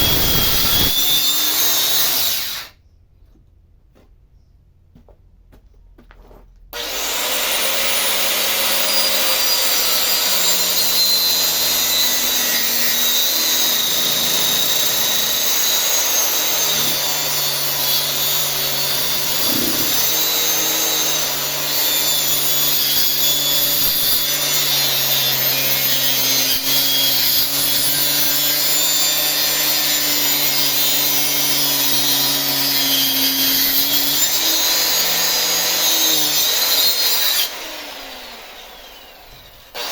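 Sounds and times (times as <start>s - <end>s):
chainsaw cutting wood: 0.0s - 2.8s, 6.8s - 39.9s.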